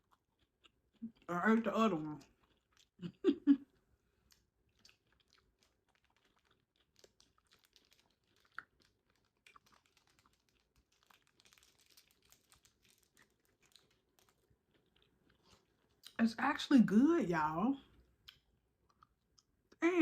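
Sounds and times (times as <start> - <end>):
person chewing food: 0.0 - 1.3, 2.2 - 16.2, 17.9 - 19.8.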